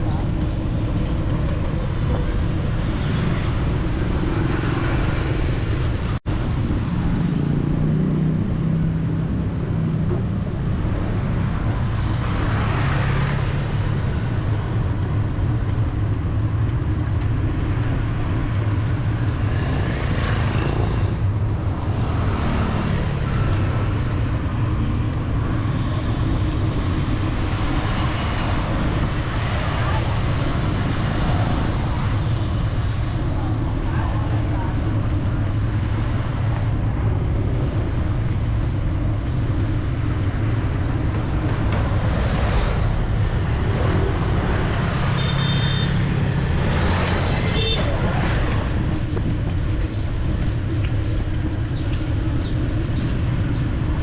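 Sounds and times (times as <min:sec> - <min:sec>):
city street traffic: 0:00.0 - 0:54.0
vehicles passing: 0:00.0 - 0:54.0.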